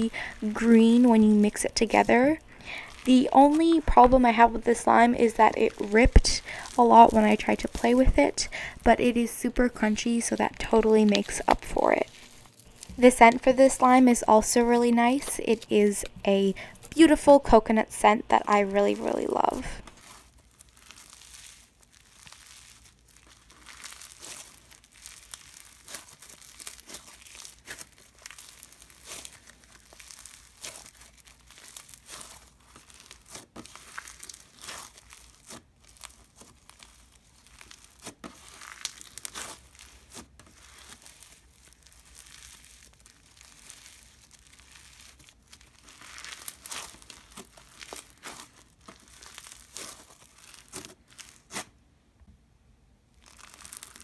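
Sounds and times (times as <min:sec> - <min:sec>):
slime crackling and ripping: 0:00.0 - 0:51.8, 0:53.1 - 0:54.0.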